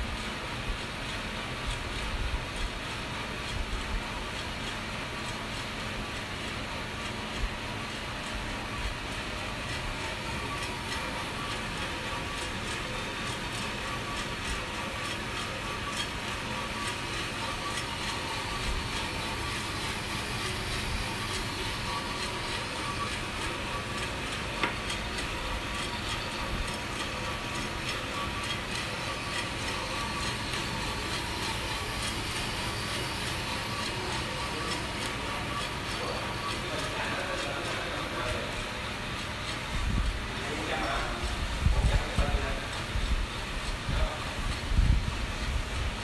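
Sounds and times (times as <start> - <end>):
coffee roaster drum rushing: 0.0 - 46.0.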